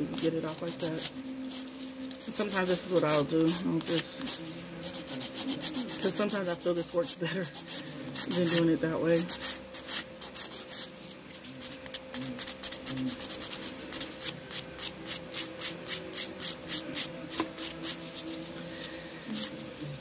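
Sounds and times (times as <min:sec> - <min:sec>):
nail file rasping on nail: 0:00.1 - 0:18.6, 0:19.3 - 0:19.6.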